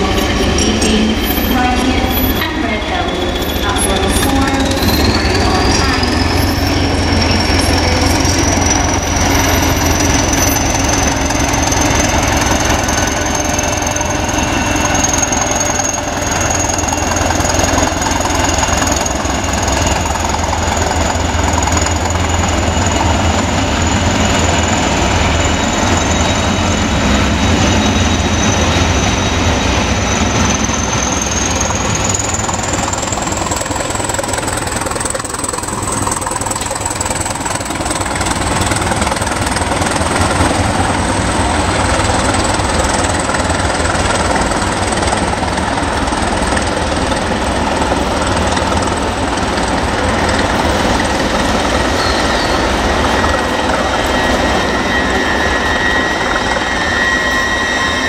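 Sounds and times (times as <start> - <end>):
high whine: 0.0 - 58.0
train diesel engine running hard: 0.0 - 58.0.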